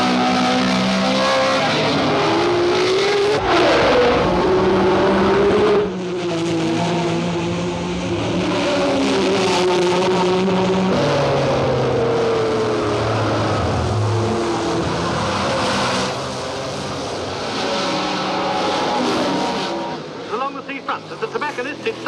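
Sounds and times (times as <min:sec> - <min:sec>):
race cars passing at high revs: 0:00.0 - 0:22.0.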